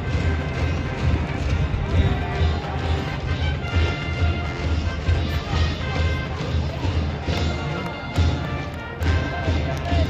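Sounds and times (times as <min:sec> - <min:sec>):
brass band playing: 0:00.0 - 0:10.0
crowd noise: 0:00.0 - 0:10.0.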